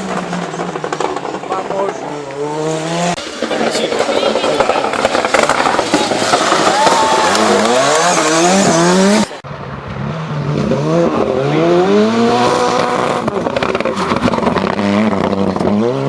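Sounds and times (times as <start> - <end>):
exhaust crackles: 0.0 - 16.0
rally car engine accelerating: 0.0 - 16.0.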